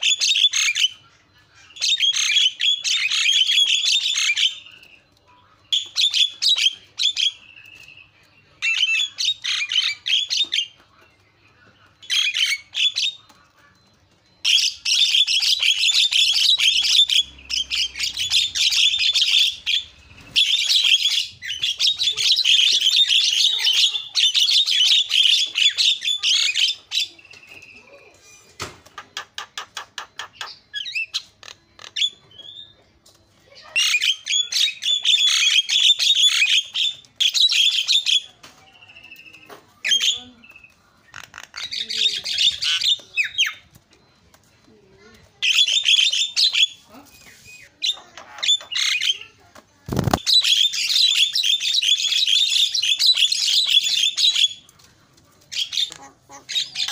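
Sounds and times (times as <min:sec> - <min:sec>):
bird chattering song: 0:00.0 - 0:43.8, 0:45.1 - 0:54.8, 0:55.5 - 0:56.9.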